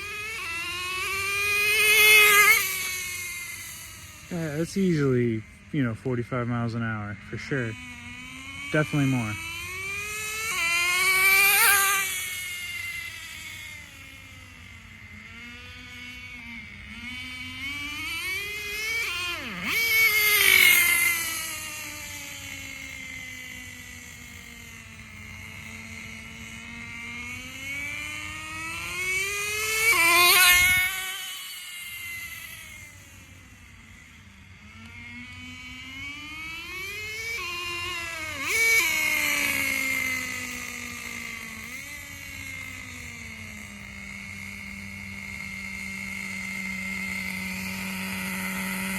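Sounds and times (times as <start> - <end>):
rc car engine revving: 0.0 - 48.9.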